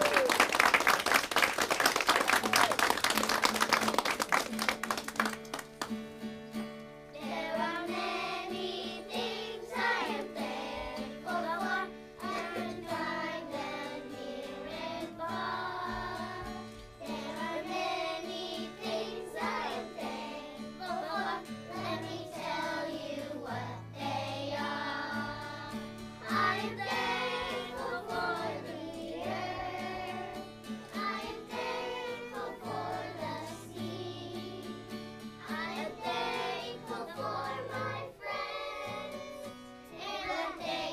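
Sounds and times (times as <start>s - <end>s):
children singing in unison: 7.2s - 40.9s.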